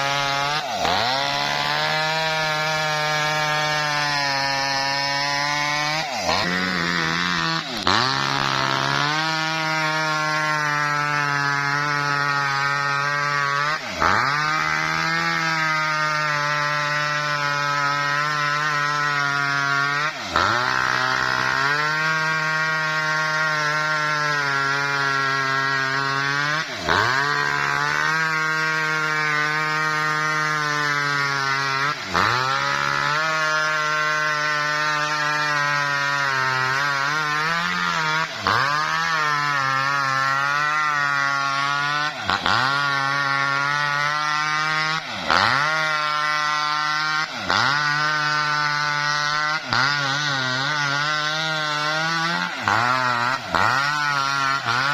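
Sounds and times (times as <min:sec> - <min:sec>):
petrol wood-cutting machine running: 0:00.0 - 0:54.9.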